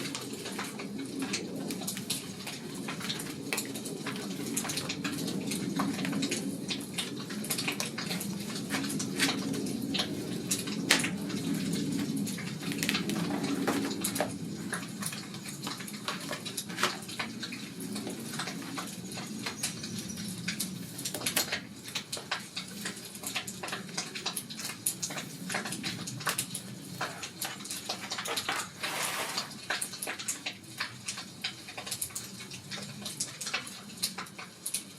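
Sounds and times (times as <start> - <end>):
fireplace crackling and popping: 0.0 - 34.9.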